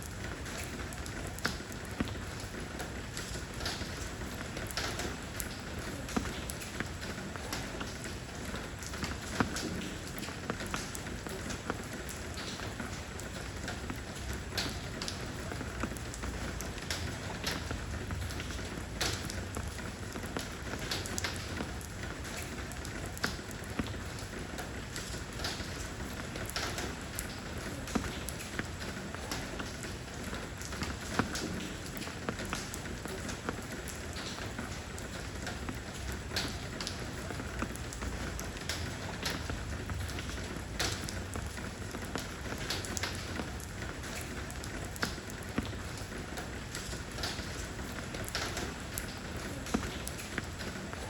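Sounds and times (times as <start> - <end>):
raindrops tapping: 0.0 - 51.0
steady rain on stone: 0.0 - 51.0.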